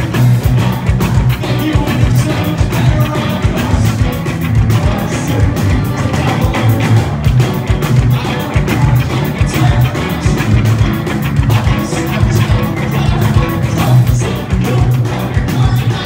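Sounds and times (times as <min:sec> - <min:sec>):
electric guitar: 0:00.0 - 0:16.0
live rock band playing: 0:00.0 - 0:16.0.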